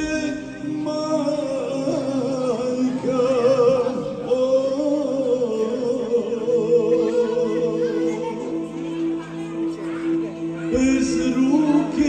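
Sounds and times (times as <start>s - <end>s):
man singing into microphone: 0.0s - 8.5s, 10.6s - 12.0s.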